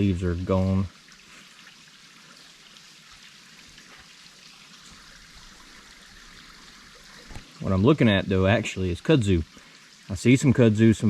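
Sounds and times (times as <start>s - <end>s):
water trickling over waterfall: 0.0s - 11.0s.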